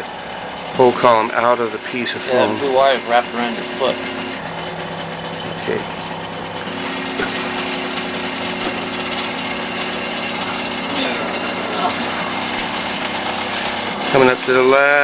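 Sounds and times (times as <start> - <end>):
stepper motors humming: 0.0 - 15.0.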